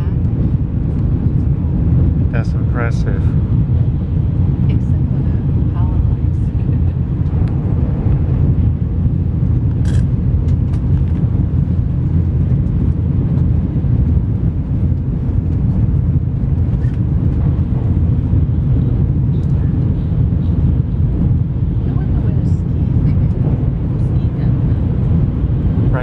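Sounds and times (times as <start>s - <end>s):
train rumble from inside: 0.0s - 26.0s.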